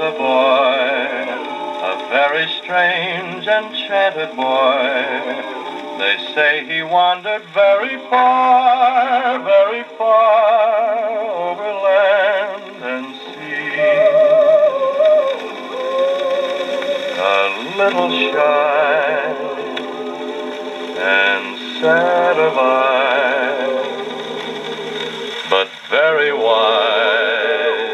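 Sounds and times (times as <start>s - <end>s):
backing vocal group singing: 0.0s - 27.9s
man crooning on gramophone record: 0.0s - 27.9s.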